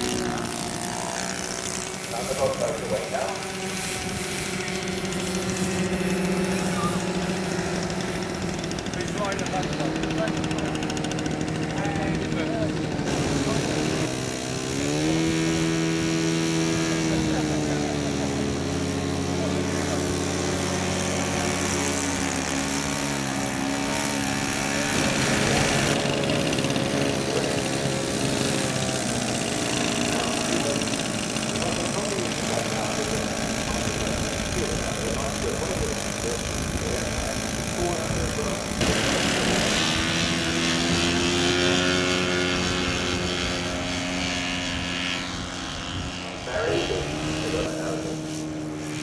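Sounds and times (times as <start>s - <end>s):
model aircraft engine running: 0.0s - 49.0s.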